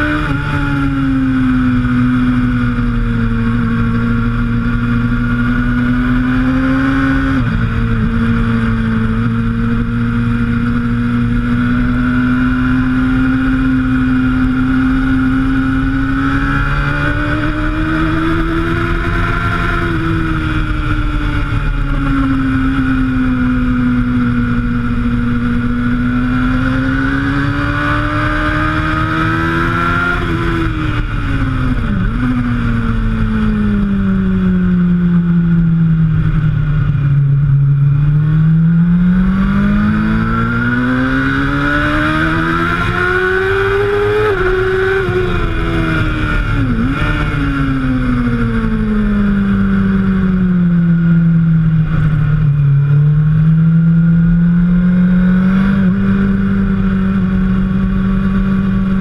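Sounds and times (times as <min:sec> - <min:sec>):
motorcycle engine at high revs: 0:00.0 - 0:59.0
wind rush on camera: 0:00.0 - 0:59.0.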